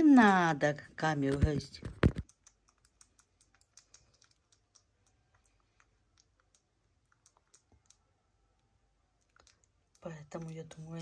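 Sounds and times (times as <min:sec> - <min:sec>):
faint small clicks: 0:01.4 - 0:10.8.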